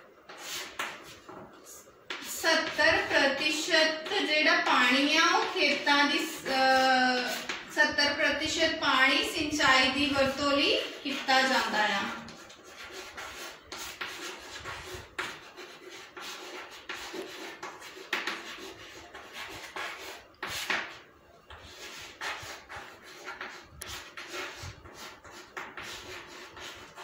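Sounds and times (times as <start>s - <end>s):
chalk scratching on chalkboard: 0.3s - 4.2s, 4.8s - 27.0s.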